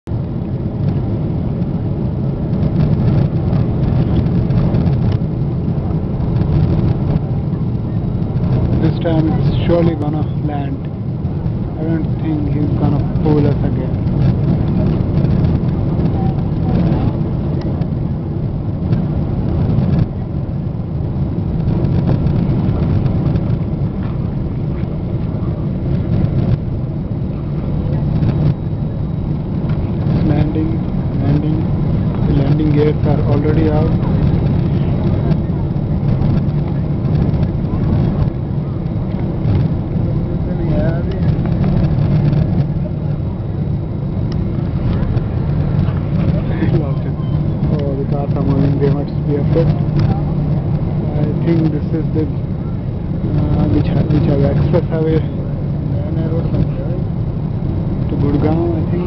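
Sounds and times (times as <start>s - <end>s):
airplane cabin engine rumble: 0.0s - 59.0s
rushing air: 0.1s - 59.0s.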